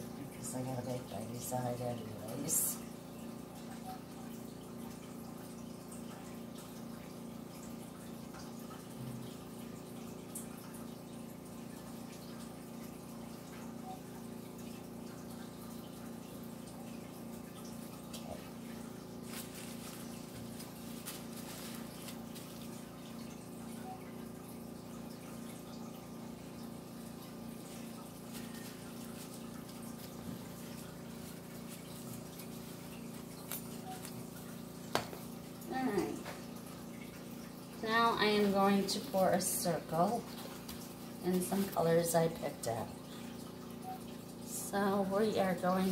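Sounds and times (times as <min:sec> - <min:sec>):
mechanical hum: 0:00.0 - 0:45.9.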